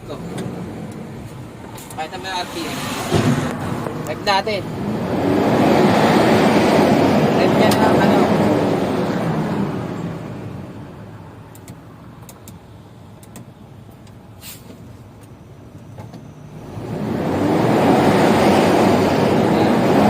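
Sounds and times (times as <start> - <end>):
diesel truck engine revving: 0.0 - 12.6, 16.4 - 20.0.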